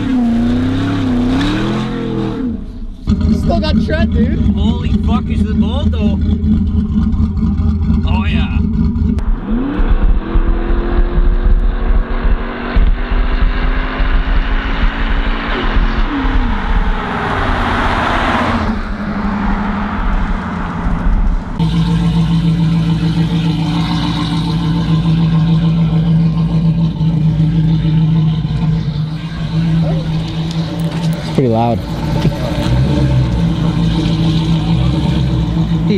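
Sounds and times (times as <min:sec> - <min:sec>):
car exhaust revving: 0:00.0 - 0:35.9
deep exhaust drone: 0:00.0 - 0:35.9.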